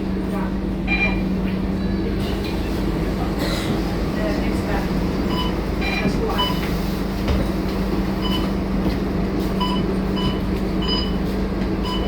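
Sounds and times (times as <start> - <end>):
diesel bus engine humming: 0.0 - 12.0.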